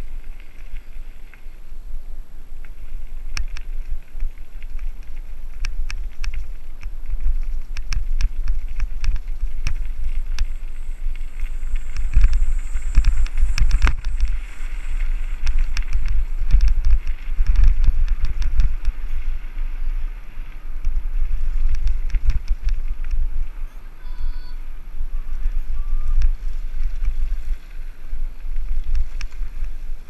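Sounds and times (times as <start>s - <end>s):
wind rumbling on microphone: 0.0s - 30.0s
bike rattling over bumps: 2.5s - 23.9s, 24.7s - 30.0s.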